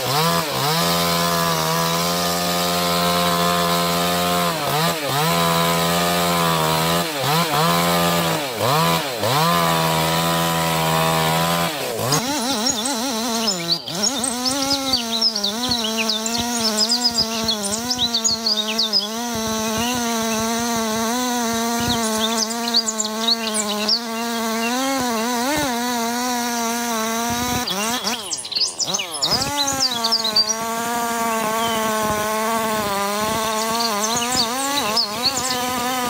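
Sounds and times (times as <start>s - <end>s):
birds chirping: 0.0s - 36.0s
chainsaw engine cutting: 0.0s - 36.0s.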